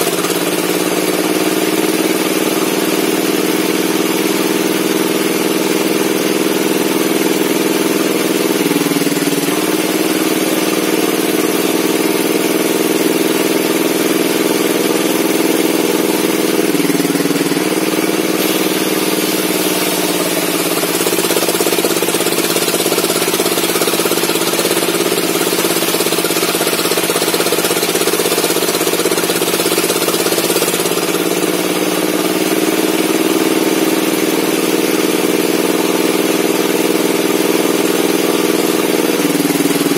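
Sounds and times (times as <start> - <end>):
table saw cutting wood: 0.0 - 39.9.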